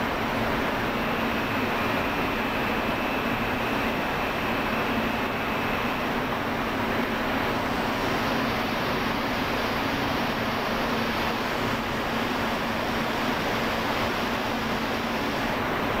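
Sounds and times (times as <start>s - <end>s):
factory ventilation rushing: 0.0s - 16.0s.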